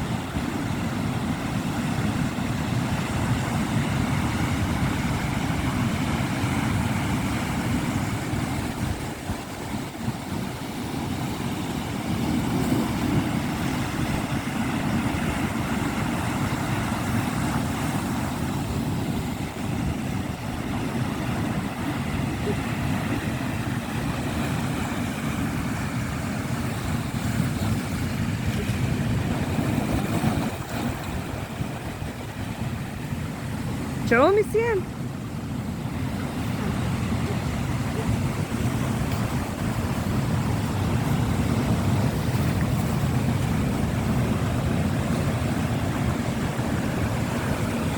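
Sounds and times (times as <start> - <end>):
sea waves washing ashore: 0.0 - 47.9
wind rumbling on microphone: 0.0 - 47.9.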